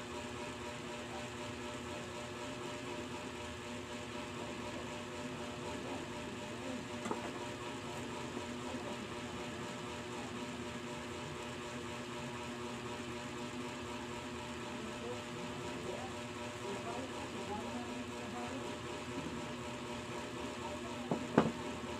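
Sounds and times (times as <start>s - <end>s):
mechanical hum: 0.0s - 21.9s.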